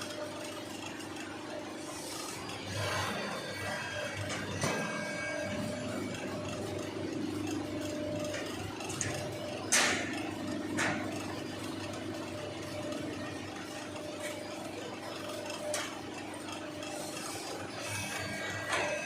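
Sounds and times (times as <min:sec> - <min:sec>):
bending machine humming: 0:00.0 - 0:19.0.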